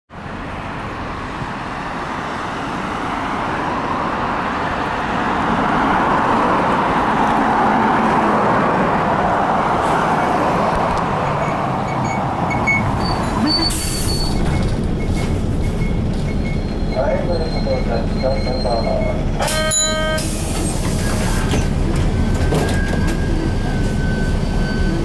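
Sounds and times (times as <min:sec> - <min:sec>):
bus approaching: 0:00.1 - 0:25.0
passing cars: 0:00.1 - 0:25.0.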